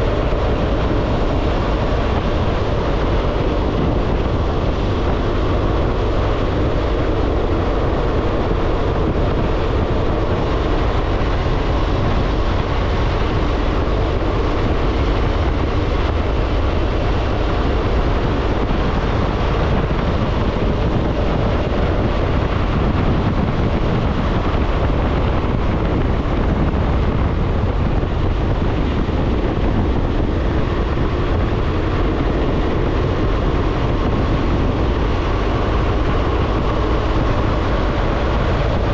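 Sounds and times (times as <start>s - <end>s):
motorcycle engine drone: 0.0s - 38.9s
wind noise on microphone: 0.0s - 38.9s.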